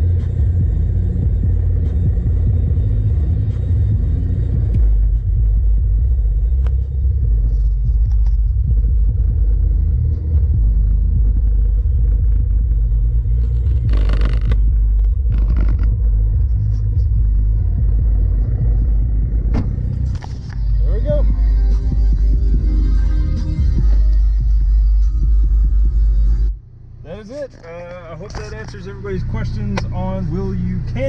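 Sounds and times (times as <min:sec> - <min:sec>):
loud deep bass music: 0:00.0 - 0:27.2, 0:28.2 - 0:31.0.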